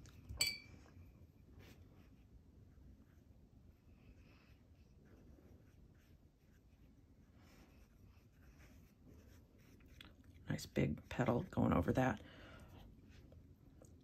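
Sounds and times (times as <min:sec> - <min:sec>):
brush swishing across paper: 0:01.0 - 0:11.9, 0:12.6 - 0:13.7.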